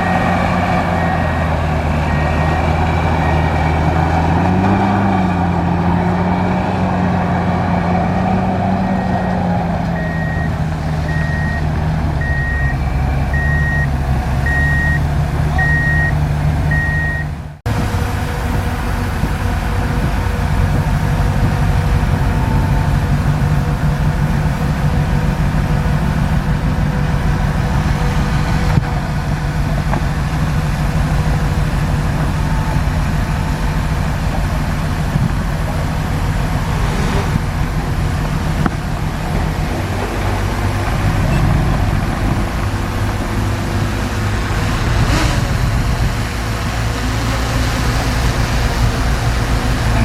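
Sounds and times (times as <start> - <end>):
bulldozer diesel engine droning: 0.0 - 50.0.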